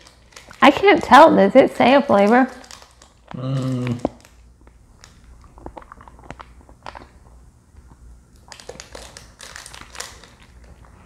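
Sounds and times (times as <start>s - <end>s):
candy wrapper crinkling: 0.0s - 7.3s, 8.3s - 11.0s.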